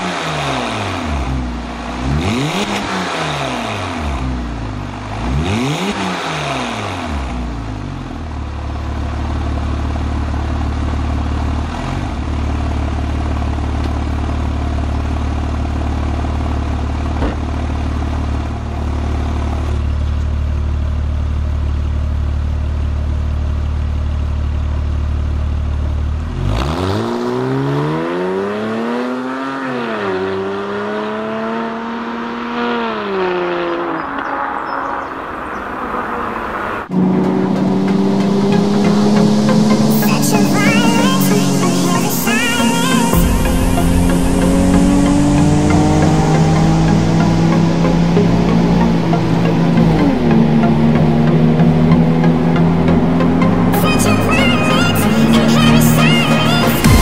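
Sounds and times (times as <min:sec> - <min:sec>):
car engine revving: 0:00.0 - 0:22.2, 0:24.3 - 0:57.0.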